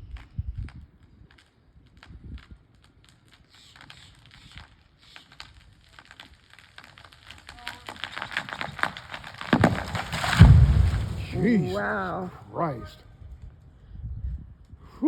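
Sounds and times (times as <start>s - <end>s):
tree trunk wood cracking: 0.1s - 12.3s.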